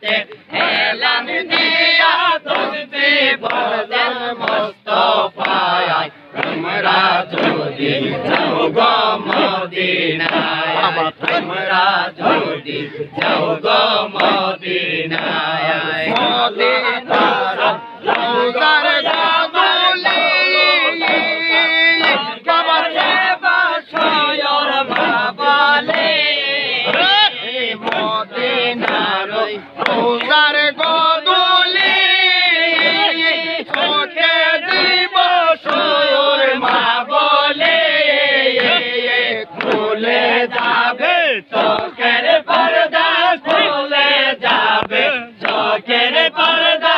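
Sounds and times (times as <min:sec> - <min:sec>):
crowd of men chanting: 0:00.0 - 0:46.9.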